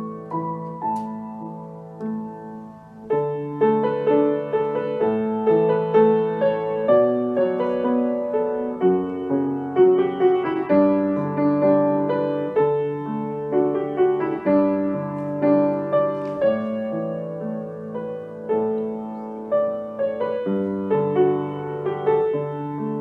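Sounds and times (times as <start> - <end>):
slow piano melody: 0.0 - 23.0.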